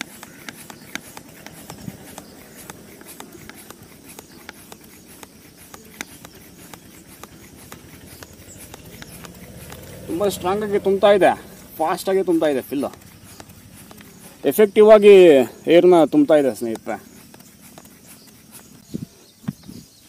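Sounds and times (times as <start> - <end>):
bicycle hand pump strokes: 0.0 - 20.0.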